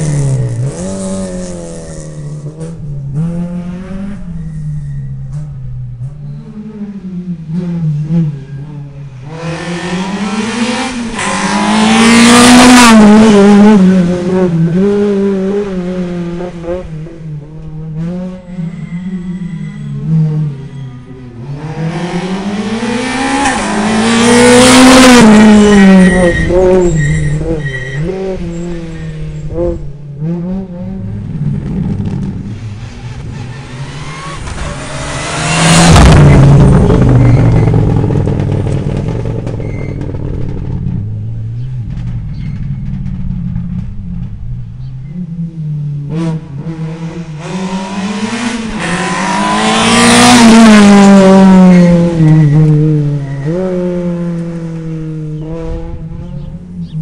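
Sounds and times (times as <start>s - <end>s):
distant engine: 0.0s - 57.0s
rally cars driving past: 0.0s - 57.0s.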